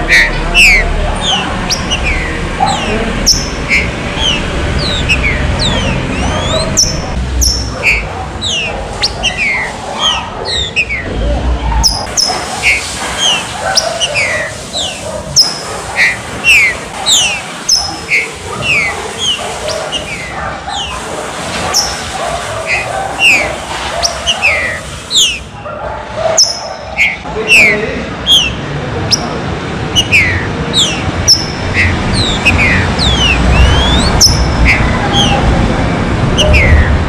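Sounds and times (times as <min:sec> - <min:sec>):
birds singing whistled notes: 0:00.0 - 0:21.0, 0:21.7 - 0:25.5, 0:26.4 - 0:35.6, 0:36.3 - 0:37.0.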